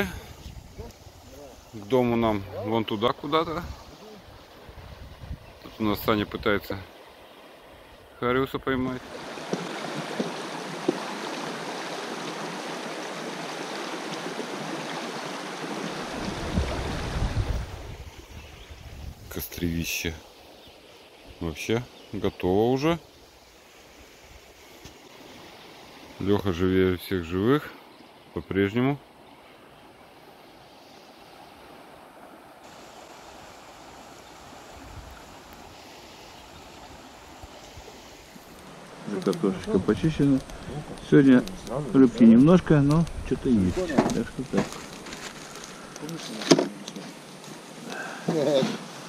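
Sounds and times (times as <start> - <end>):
river rushing and rippling: 0.0 - 49.0.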